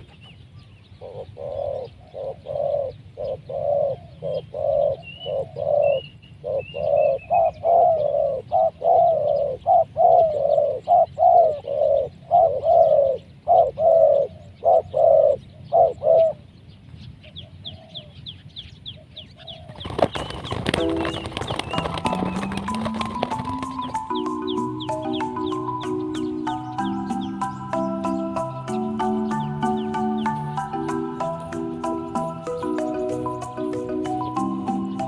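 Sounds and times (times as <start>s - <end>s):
dove cooing: 1.0s - 16.5s, 19.4s - 35.0s.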